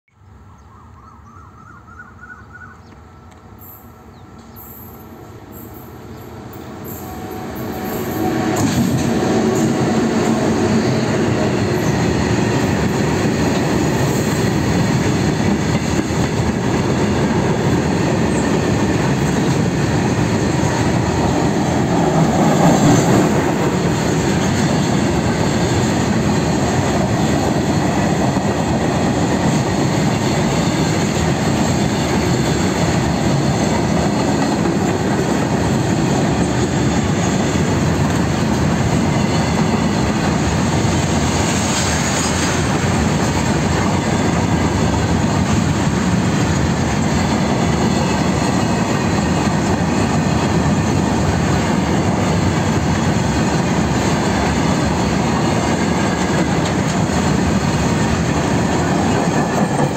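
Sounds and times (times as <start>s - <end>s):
freight train rumbling past: 2.9s - 59.9s.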